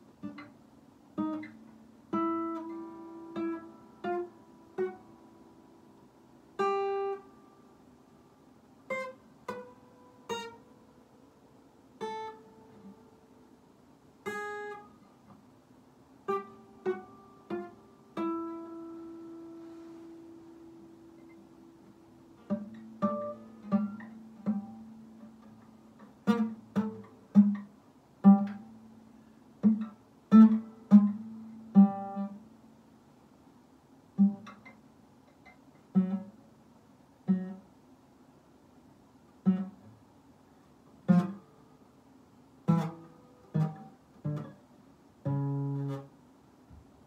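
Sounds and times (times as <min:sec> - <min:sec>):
acoustic guitar chords: 0:00.0 - 0:15.5, 0:16.1 - 0:32.8, 0:34.0 - 0:37.8, 0:39.1 - 0:47.0.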